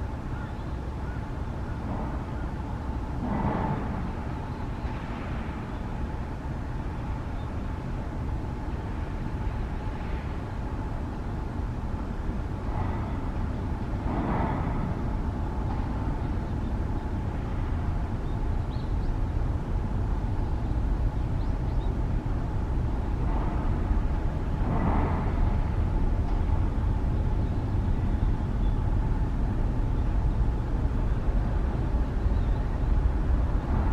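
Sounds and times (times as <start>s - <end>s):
jet airliner engines: 0.0s - 33.9s.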